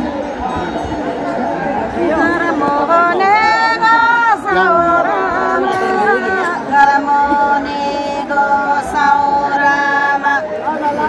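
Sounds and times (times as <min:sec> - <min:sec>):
woman singing unaccompanied: 0:01.8 - 0:11.0.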